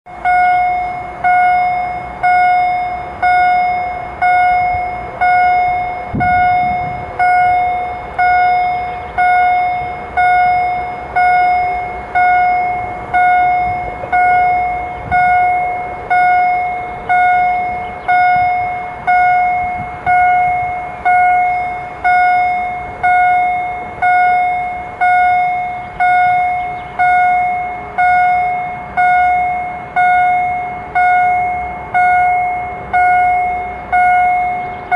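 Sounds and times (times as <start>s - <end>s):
faint approaching freight train: 0.1s - 34.9s
level-crossing warning bell ringing: 0.1s - 34.9s.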